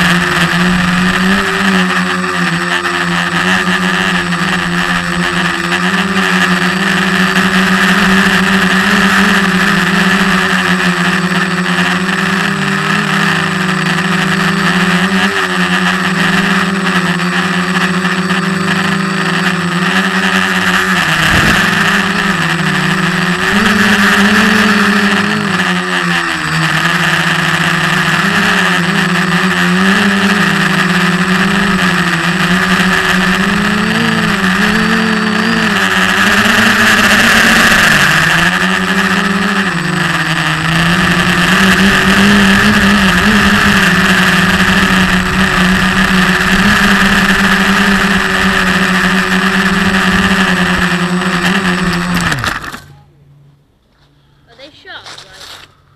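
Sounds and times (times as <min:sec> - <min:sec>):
drone propellers buzzing: 0:00.0 - 0:53.5.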